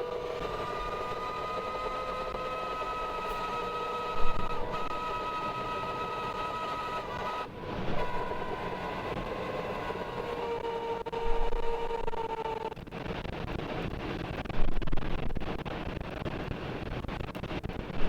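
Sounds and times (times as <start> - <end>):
mechanical drone with whining tones: 0.0 - 18.0.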